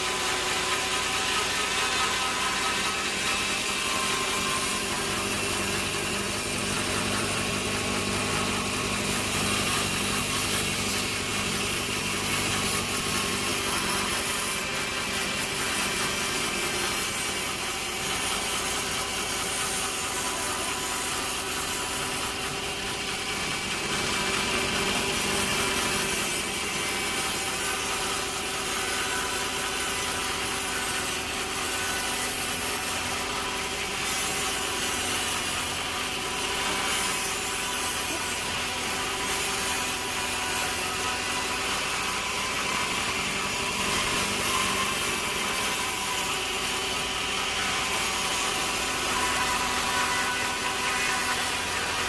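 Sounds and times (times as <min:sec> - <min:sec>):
saw cutting through log: 0:00.0 - 0:52.0.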